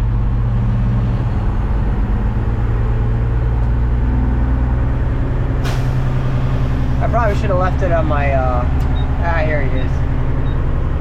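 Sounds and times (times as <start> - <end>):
garbage truck engine running: 0.0 - 11.0.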